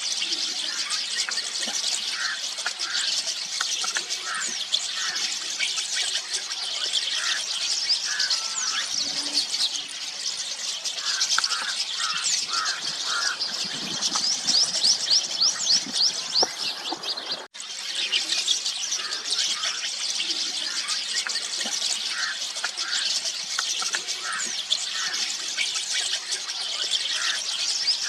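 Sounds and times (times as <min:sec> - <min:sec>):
starlings chattering: 0:00.0 - 0:28.0.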